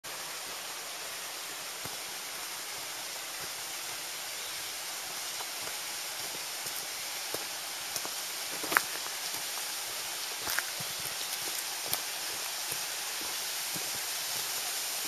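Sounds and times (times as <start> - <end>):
water rushing in stream: 0.1 - 15.0.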